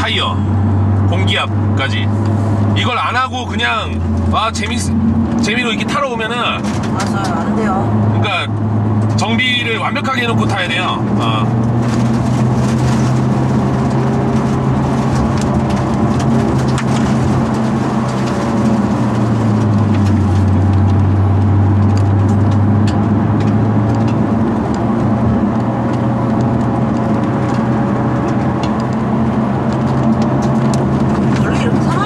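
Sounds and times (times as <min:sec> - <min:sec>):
car engine running: 0:00.0 - 0:32.0
tyre and road noise: 0:00.0 - 0:32.0.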